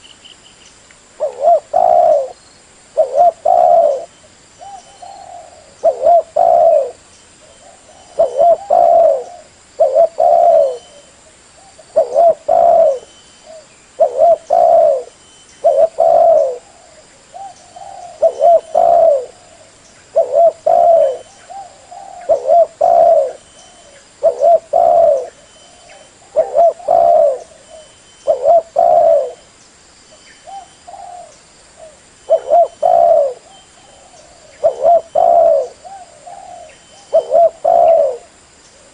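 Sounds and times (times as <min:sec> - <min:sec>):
dove cooing: 0:01.2 - 0:02.4, 0:03.0 - 0:29.5, 0:30.4 - 0:38.9.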